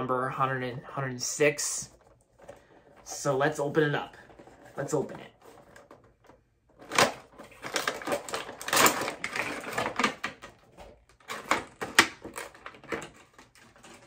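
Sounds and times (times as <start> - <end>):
plastic and cardboard crackling: 1.2 - 14.0.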